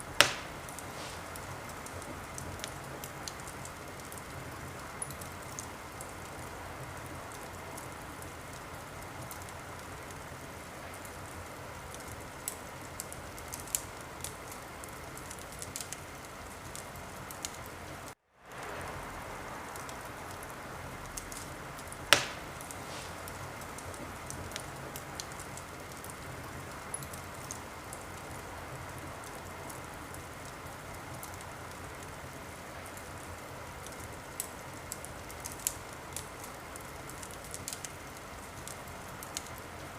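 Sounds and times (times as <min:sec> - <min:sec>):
fire hissing: 0:00.0 - 0:39.9
sharp pops and snaps of fire: 0:00.0 - 0:39.9
wood fire crackling: 0:00.0 - 0:39.9.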